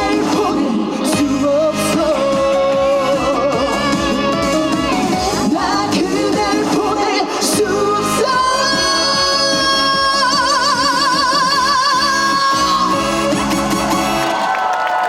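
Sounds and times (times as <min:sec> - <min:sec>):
woman singing with vibrato: 0:00.0 - 0:13.8
backing band track: 0:00.0 - 0:14.7.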